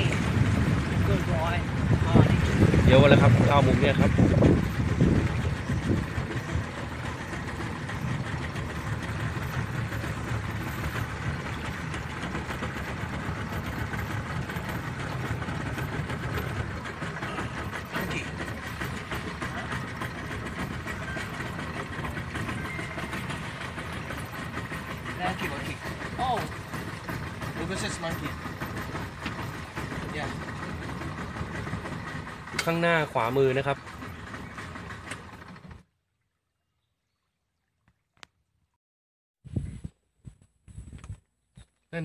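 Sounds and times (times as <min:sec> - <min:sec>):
outboard motor running: 0:00.0 - 0:37.8.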